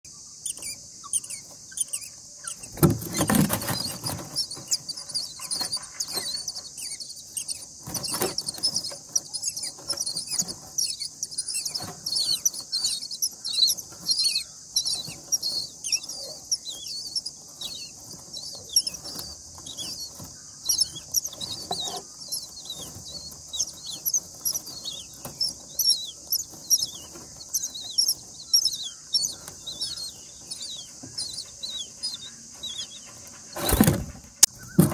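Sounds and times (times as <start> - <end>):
nestlings squeaking: 0.1 - 34.9
rustle: 0.2 - 34.9.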